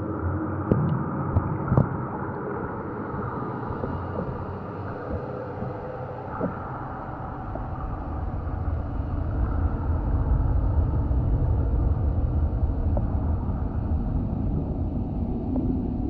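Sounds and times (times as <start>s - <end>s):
muffled underwater water rumble: 0.0s - 16.0s.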